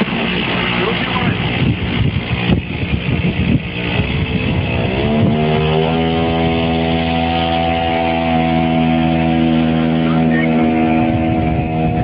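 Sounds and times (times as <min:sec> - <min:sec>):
small petrol engine revving: 0:00.0 - 0:12.0.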